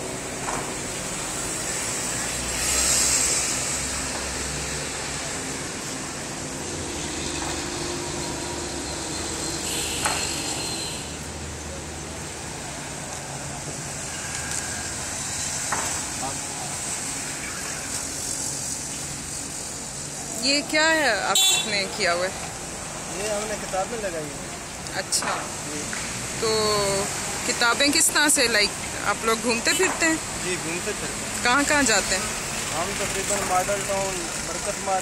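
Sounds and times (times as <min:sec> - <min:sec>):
traffic hum: 0:00.0 - 0:35.0.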